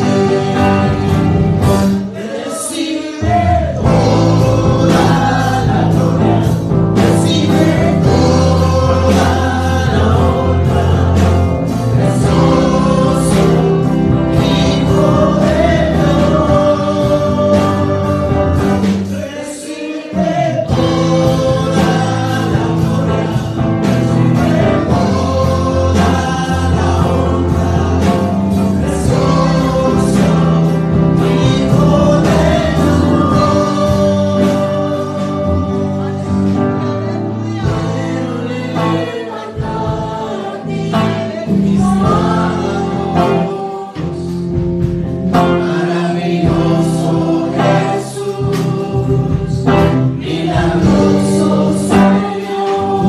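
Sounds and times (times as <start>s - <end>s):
man singing: 0.0s - 53.0s
music accompaniment: 0.0s - 53.0s.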